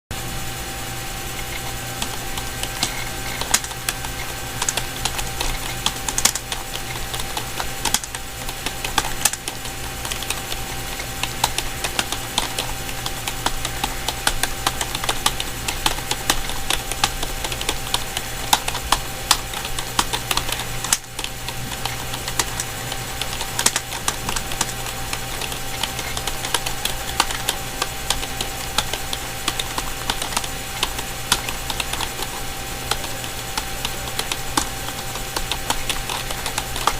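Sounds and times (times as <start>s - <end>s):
steady low hum: 0.1s - 36.9s
keyboard key clicks: 1.4s - 36.9s.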